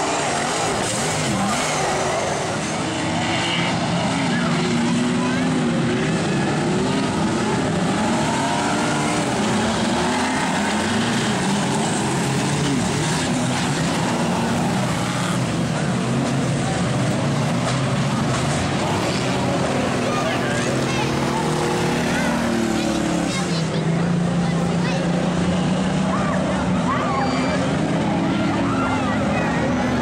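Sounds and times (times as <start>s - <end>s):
many race car engines: 0.0s - 30.0s.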